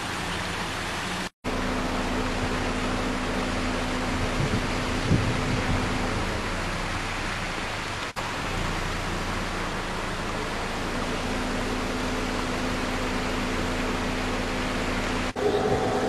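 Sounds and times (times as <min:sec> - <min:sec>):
car cabin road noise: 0:00.0 - 0:16.0
low hum: 0:01.5 - 0:16.0.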